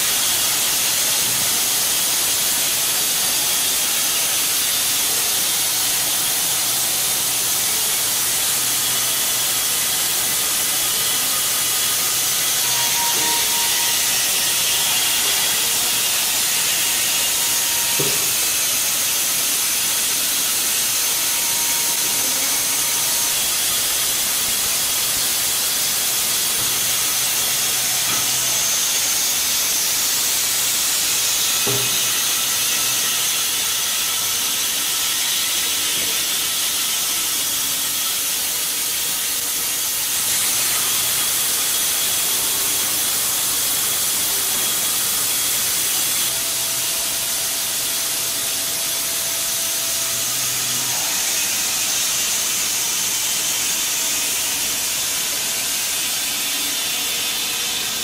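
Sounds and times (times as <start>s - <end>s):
band saw cutting log hiss: 0.0s - 58.0s.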